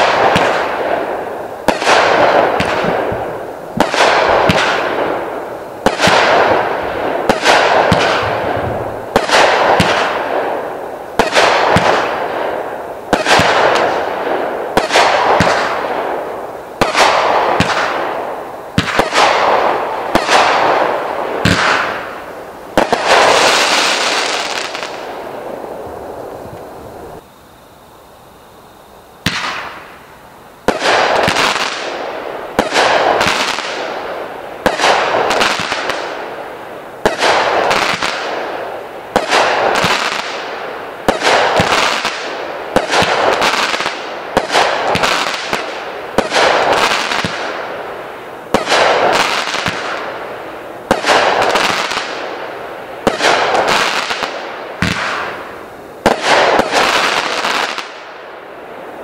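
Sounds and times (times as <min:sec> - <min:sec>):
fireworks bursting with crackling: 0:00.0 - 0:59.0.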